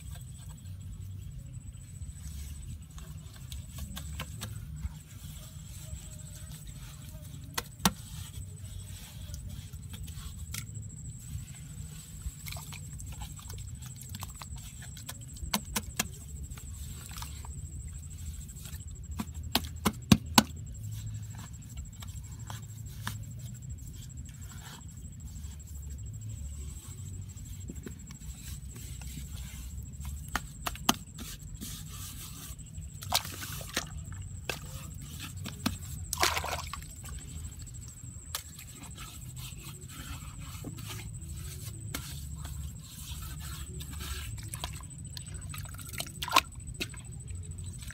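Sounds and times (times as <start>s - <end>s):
hands scraping wet mud: 0.0s - 47.9s
low steady rumble: 0.0s - 47.9s.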